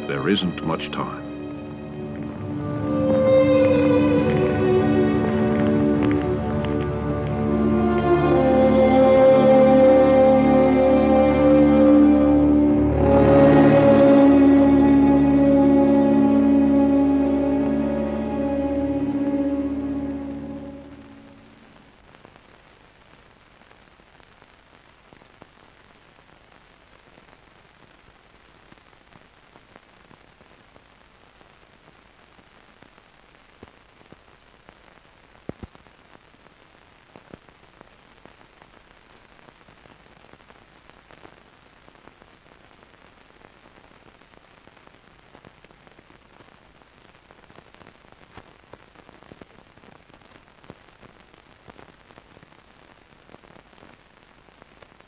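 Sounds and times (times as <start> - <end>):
crackles and pops: 0.0 - 55.0
faint steady hiss: 0.0 - 55.0.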